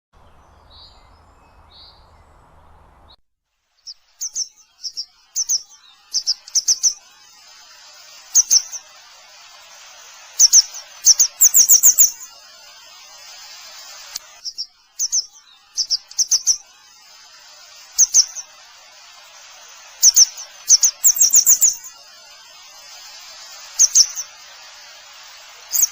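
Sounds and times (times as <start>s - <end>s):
bird chirping: 0.2s - 3.2s, 3.8s - 25.9s
steady hiss: 0.3s - 25.9s.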